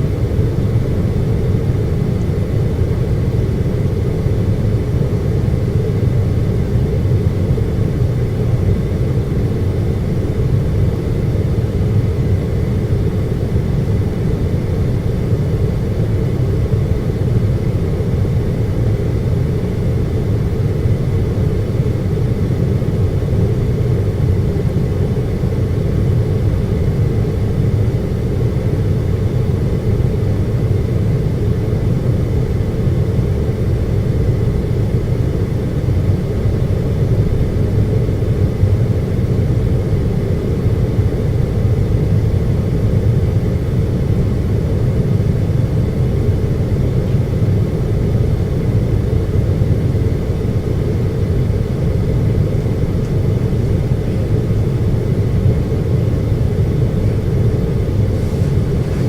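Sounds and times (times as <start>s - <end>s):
air conditioner humming: 0.0s - 59.0s
faint steady whine: 0.0s - 59.0s.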